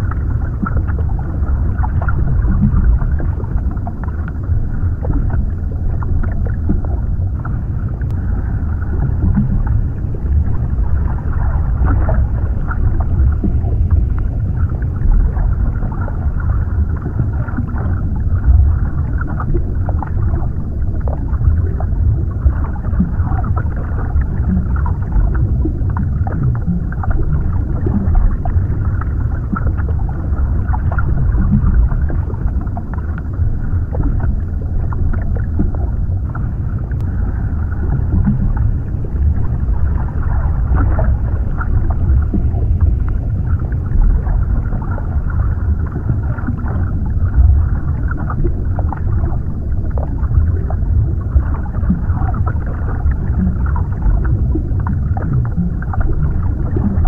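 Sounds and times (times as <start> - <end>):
deep underwater rumble: 0.0 - 57.0.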